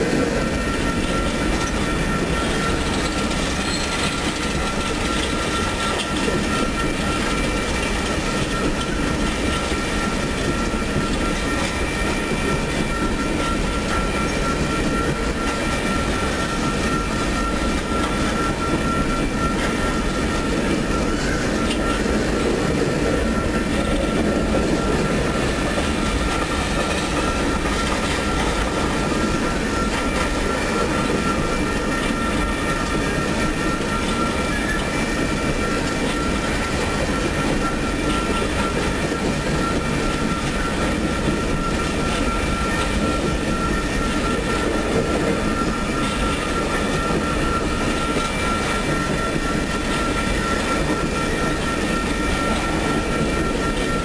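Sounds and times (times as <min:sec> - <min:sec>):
high-pitched whine: 0:00.0 - 0:54.0
train wheels rumbling on rail: 0:00.0 - 0:54.0.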